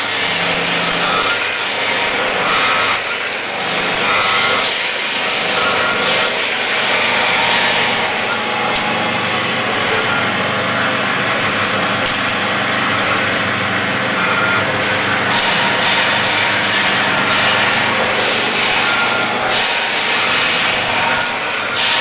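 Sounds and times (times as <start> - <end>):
packaging machine running: 0.0 - 22.0.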